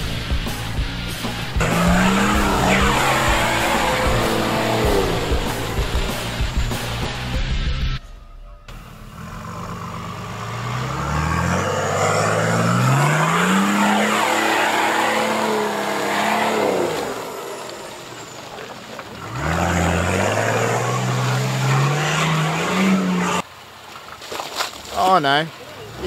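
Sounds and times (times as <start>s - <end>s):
car engine revving: 0.0s - 8.0s, 8.7s - 23.4s
tyres churning through mud: 1.6s - 7.4s, 9.2s - 26.0s.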